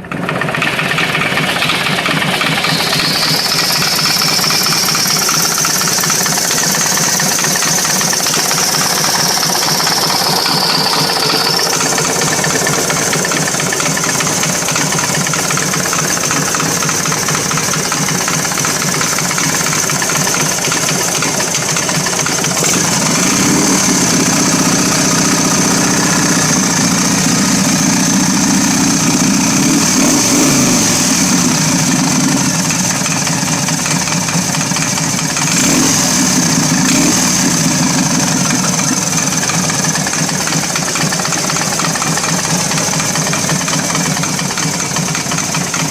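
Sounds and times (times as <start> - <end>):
motorcycle engine running: 0.0 - 45.9
rapid rhythmic engine knocking: 0.0 - 45.9.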